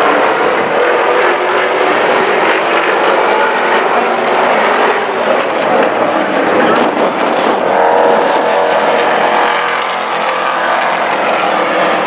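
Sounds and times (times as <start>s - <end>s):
racing truck engines droning: 0.0s - 12.0s.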